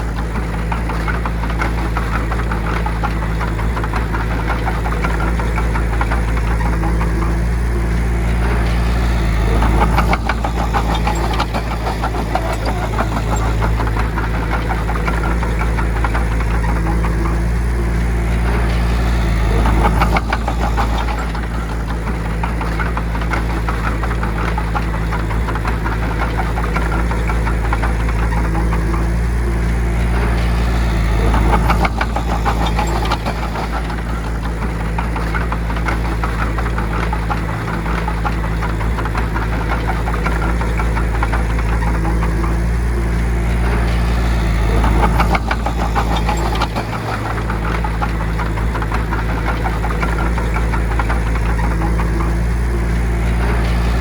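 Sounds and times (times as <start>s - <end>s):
bulldozer diesel engine clattering: 0.0s - 54.0s.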